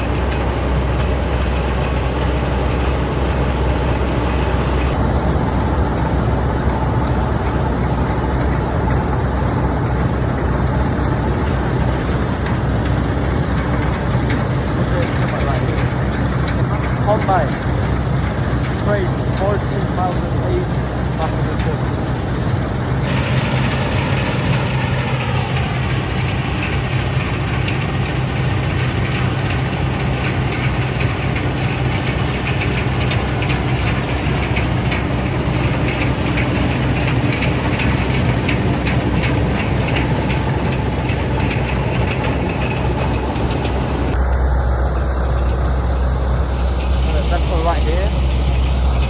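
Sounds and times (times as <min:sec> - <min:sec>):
combine harvester engine humming: 0:00.0 - 0:49.0
machinery rattling: 0:00.0 - 0:49.0.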